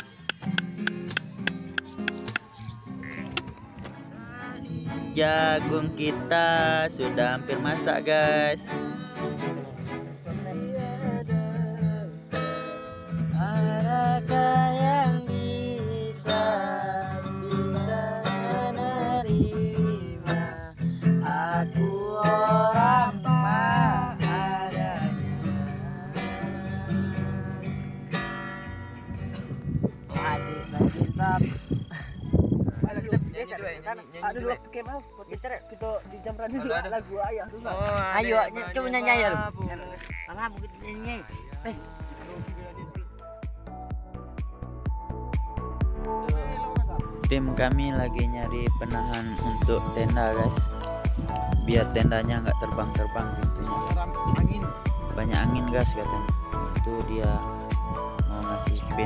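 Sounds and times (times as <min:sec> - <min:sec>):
acoustic guitar strummed: 0:00.0 - 0:30.8, 0:35.4 - 0:59.0.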